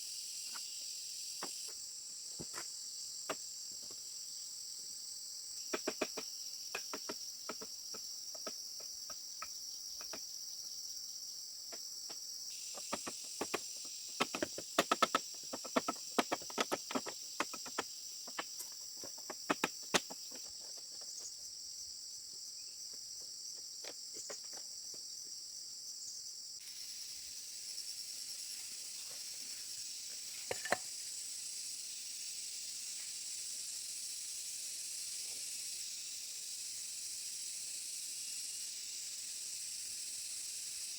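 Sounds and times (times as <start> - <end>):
insects chirping: 0.0 - 40.9.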